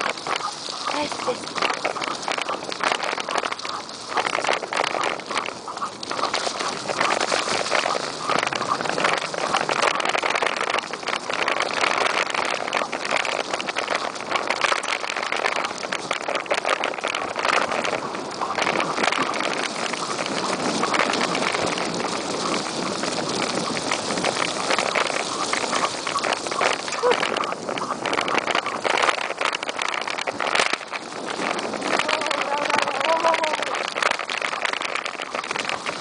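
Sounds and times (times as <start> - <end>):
bicycle tyres over dry leaves: 0.0 - 36.0.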